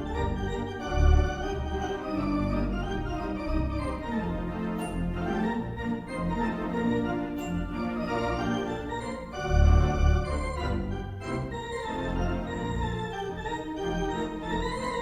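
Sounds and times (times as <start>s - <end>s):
cartoon organ music: 0.0s - 5.2s, 7.5s - 15.0s.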